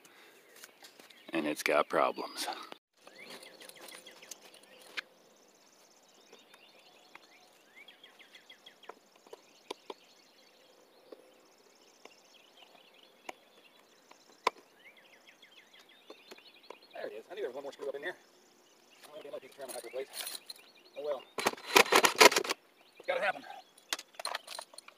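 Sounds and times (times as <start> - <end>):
birds chirping faintly: 0.0 - 24.9.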